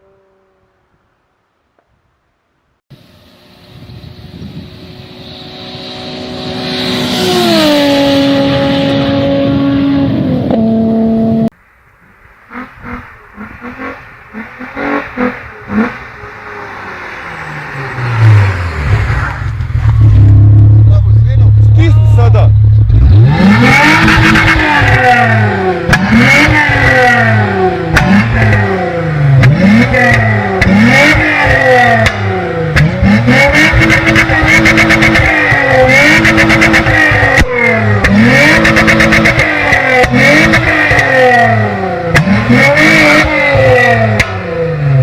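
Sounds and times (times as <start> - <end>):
car engine revving: 4.2 - 11.6, 12.5 - 45.0.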